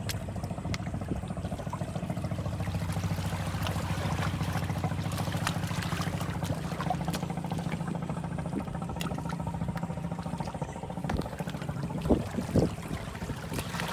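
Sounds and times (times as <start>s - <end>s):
seawater trickling and lapping: 0.0s - 13.9s
steady low hum: 0.0s - 13.9s.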